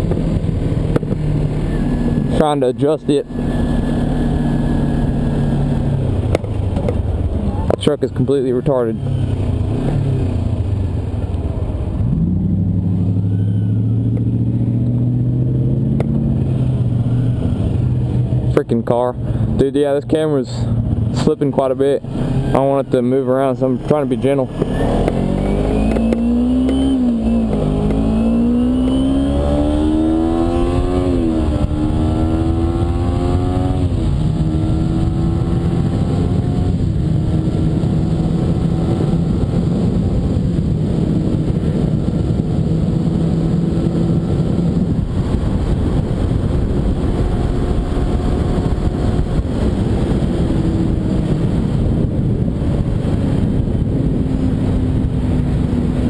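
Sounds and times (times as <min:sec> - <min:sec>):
motorcycle engine shifting gears: 0:00.0 - 0:56.0
wind and road noise: 0:00.0 - 0:56.0.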